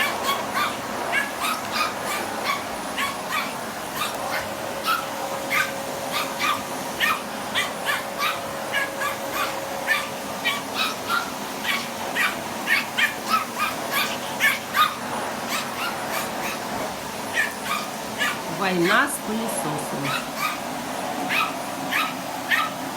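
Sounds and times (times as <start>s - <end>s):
small dog yapping: 0.0s - 18.5s, 20.0s - 20.7s, 21.3s - 22.8s
vacuum cleaner hum: 0.0s - 22.9s.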